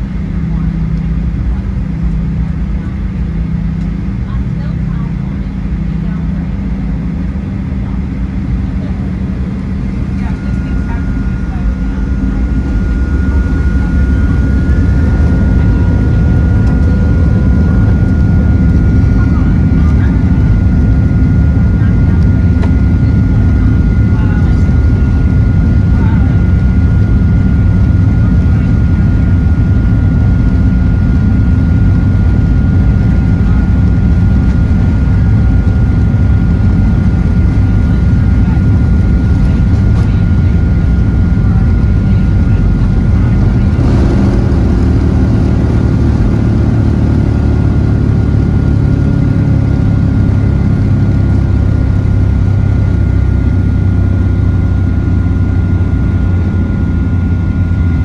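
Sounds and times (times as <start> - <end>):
jet engine rumble in cabin: 0.0 - 58.0
jet engine whine: 0.0 - 58.0.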